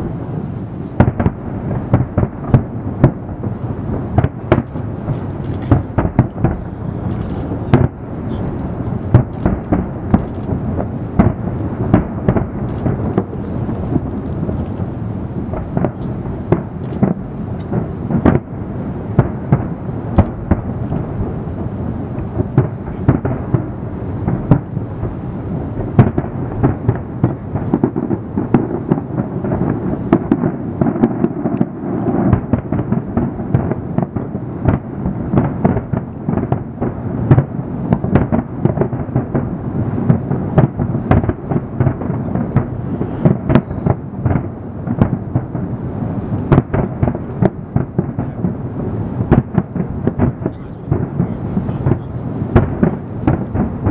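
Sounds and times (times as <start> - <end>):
fireworks bursts din: 0.0 - 53.9
sharp firework bangs: 0.0 - 53.9.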